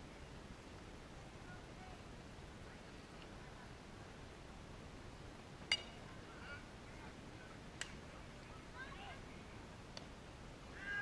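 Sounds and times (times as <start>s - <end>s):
faint chirp-like tones: 0.0s - 10.8s
low rumble and hiss: 0.0s - 11.0s.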